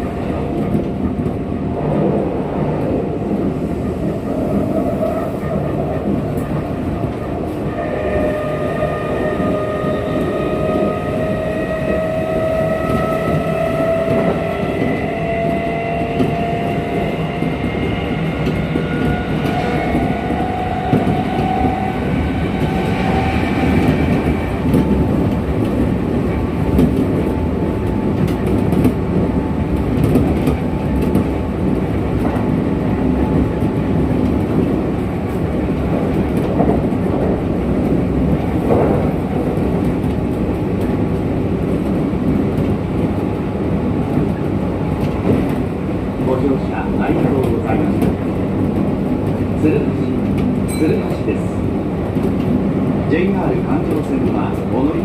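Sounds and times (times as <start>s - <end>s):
train wheels clattering on rails: 9.2s - 55.0s.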